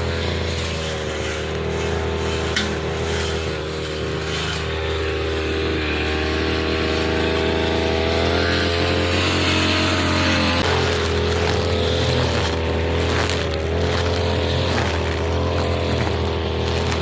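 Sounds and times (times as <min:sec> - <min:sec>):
brush cutter cutting grass: 0:00.0 - 0:17.0.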